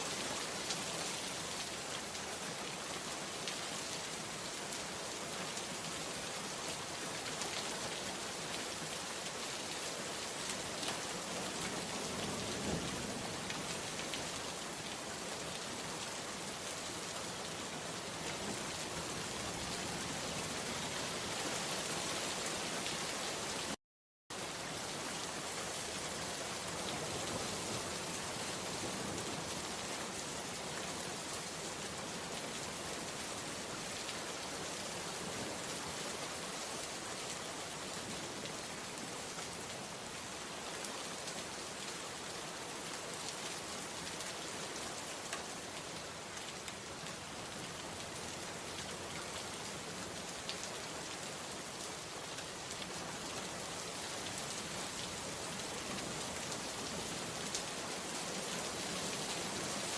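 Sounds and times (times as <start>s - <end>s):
dense rain pattering: 0.0s - 59.9s.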